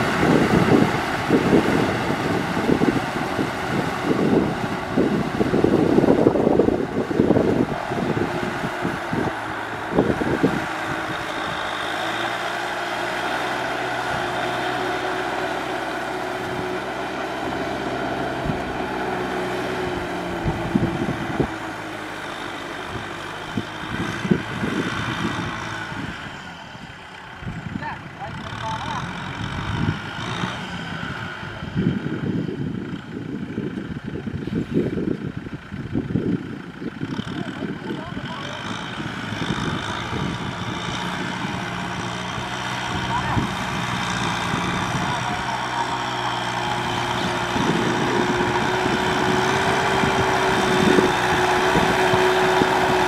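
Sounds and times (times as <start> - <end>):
tractor diesel engine running: 0.0 - 53.0
wind buffeting gusts: 0.0 - 53.0.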